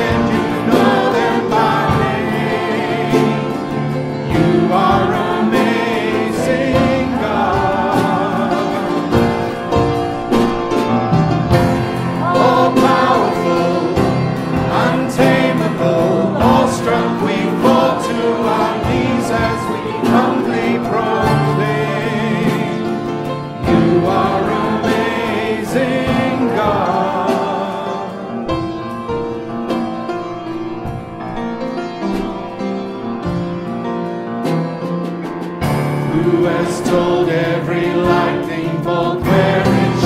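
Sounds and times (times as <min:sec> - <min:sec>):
congregation singing: 0:00.0 - 0:40.0
instrumental accompaniment: 0:00.0 - 0:40.0.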